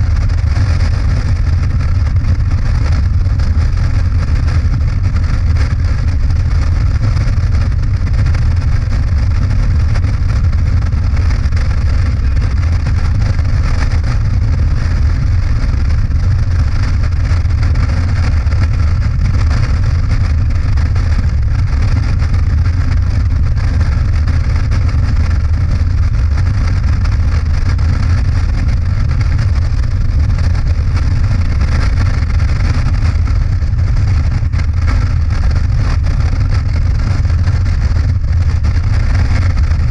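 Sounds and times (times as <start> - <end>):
motorcycle engine rumble: 0.0 - 39.9
wind noise: 0.0 - 39.9.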